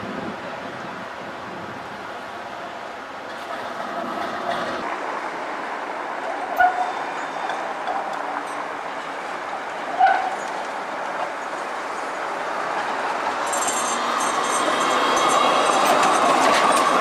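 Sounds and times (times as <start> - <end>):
tram rolling on street track: 0.0 - 17.0.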